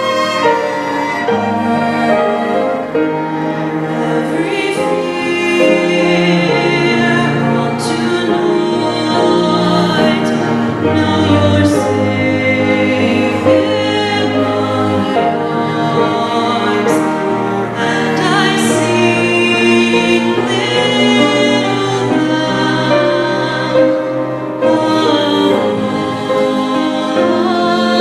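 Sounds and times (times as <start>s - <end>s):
choir singing in held chords: 0.0s - 28.0s.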